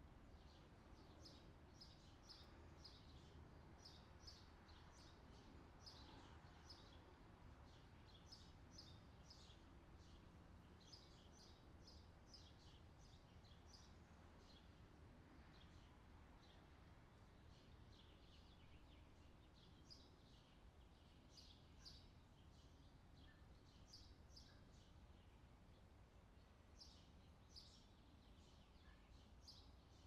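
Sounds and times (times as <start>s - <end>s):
low steady background hiss: 0.0s - 30.0s.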